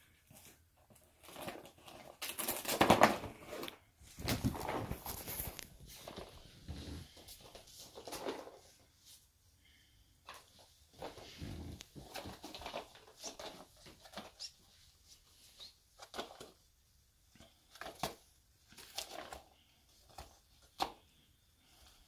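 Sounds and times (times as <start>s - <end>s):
cardboard and tape crinkling: 0.1s - 8.8s, 10.3s - 16.6s, 17.6s - 21.0s.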